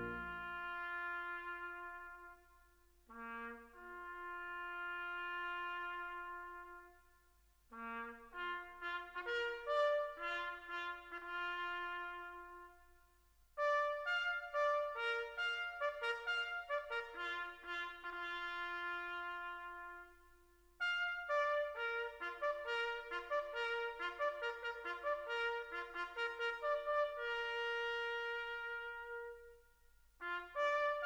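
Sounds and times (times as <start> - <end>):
brass music led by trumpet: 0.0 - 2.5, 3.1 - 7.0, 7.7 - 12.9, 13.6 - 29.6, 30.2 - 31.0.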